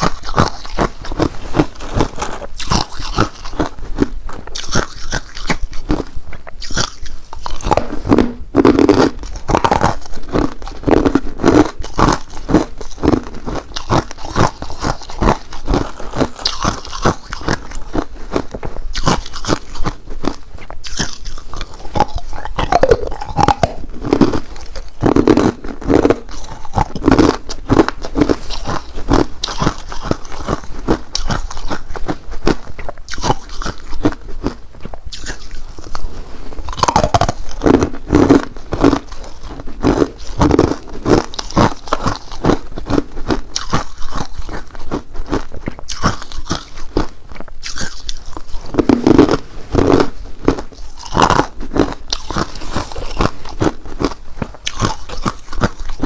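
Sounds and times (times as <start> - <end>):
ice crunching and chewing: 0.0 - 56.0.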